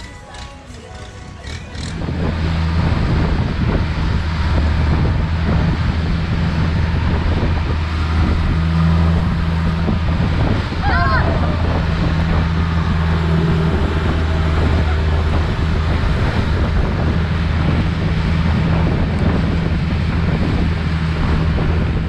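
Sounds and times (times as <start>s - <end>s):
boat engine droning: 0.0s - 22.0s
wind buffeting microphone: 1.6s - 22.0s.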